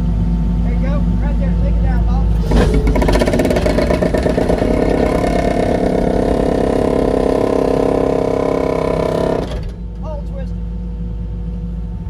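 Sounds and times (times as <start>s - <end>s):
excavator engine and hydraulics pulsing: 0.0s - 12.0s.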